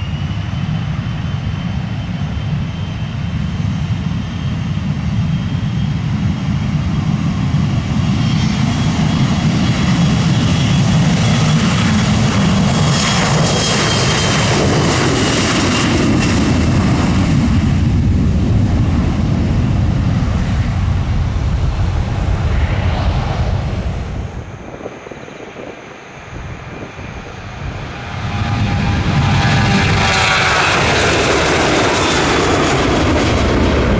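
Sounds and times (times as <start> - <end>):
jet taking off: 0.0 - 33.9.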